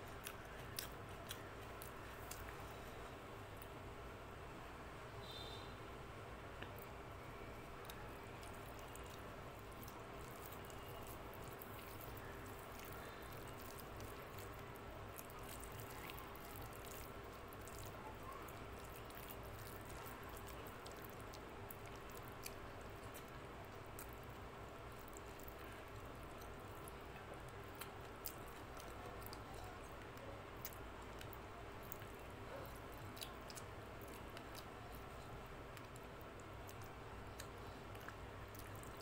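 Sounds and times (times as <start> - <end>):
fingers squishing wet food: 0.0 - 2.8, 6.6 - 39.0.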